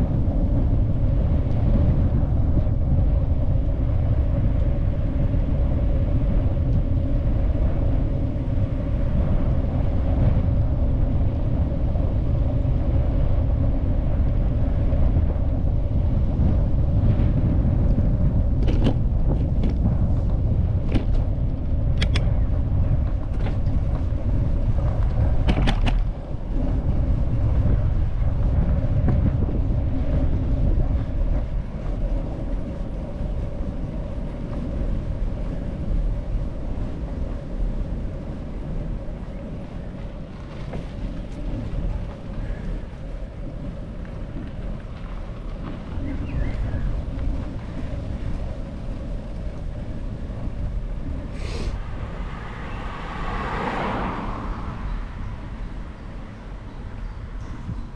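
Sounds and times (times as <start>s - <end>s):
wind and road noise: 0.0s - 57.9s.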